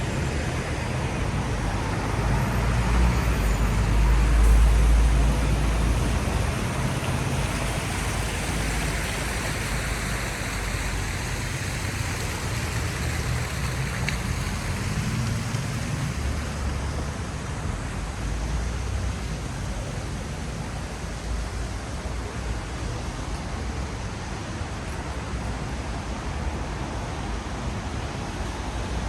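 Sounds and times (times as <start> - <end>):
rain: 0.0 - 29.0
tyres hissing on wet road: 0.0 - 29.0.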